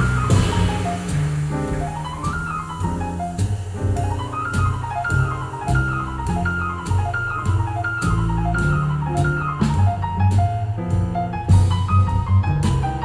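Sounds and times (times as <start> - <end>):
drum kit and cymbal strikes: 0.0 - 13.0
jazz over loudspeakers: 0.0 - 13.0
walking bass line: 0.0 - 13.0.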